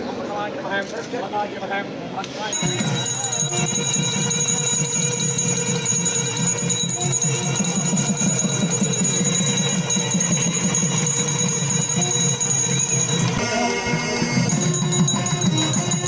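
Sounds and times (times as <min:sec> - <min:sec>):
music with jingling percussion: 0:02.6 - 0:16.0.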